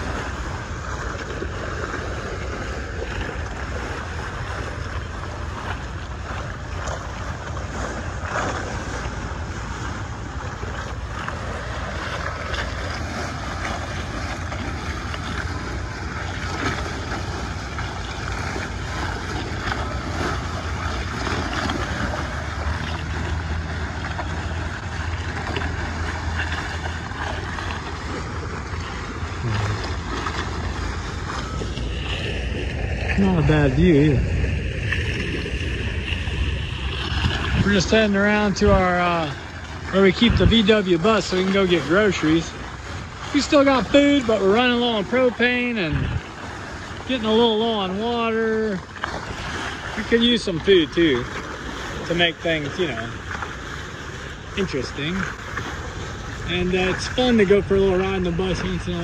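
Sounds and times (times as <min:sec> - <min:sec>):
water washing along hull: 0:00.0 - 0:59.0
wind buffeting microphone: 0:00.0 - 0:59.0.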